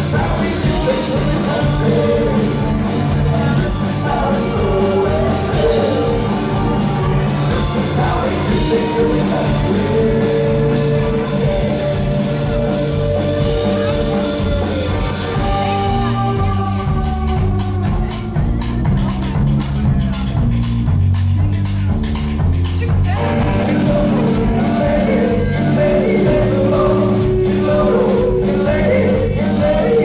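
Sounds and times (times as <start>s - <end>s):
person singing: 0.0s - 18.8s, 23.1s - 30.0s
country band playing live: 0.0s - 30.0s.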